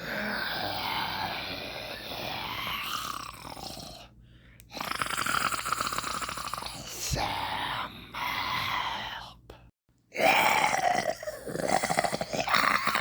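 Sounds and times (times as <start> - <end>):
person making zombie groans: 0.0 - 4.1, 4.7 - 9.4, 10.2 - 13.0.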